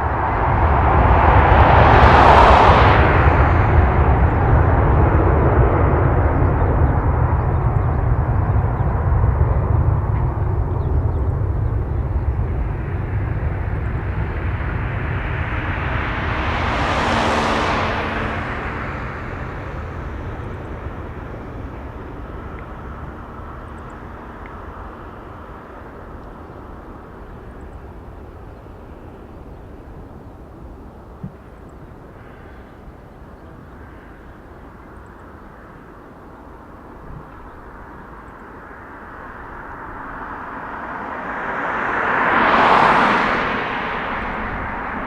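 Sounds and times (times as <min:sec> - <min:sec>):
jet airliner taking off: 0:00.0 - 0:45.0.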